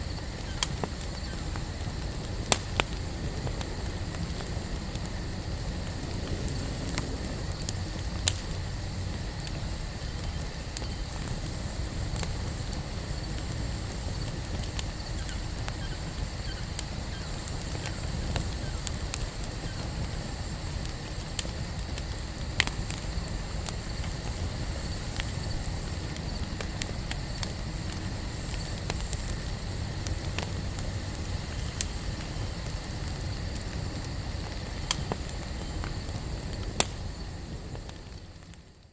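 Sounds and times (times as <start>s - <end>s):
fire crackles and pops: 0.0s - 38.9s
fire flame rumble: 0.0s - 38.9s.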